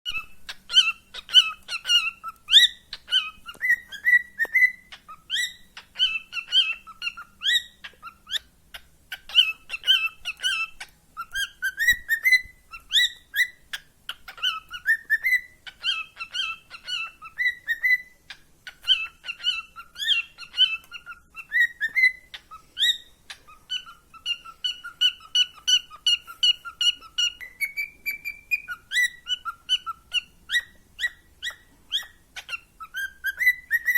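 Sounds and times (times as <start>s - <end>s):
cockatiel whistling and chirping: 0.1s - 33.9s.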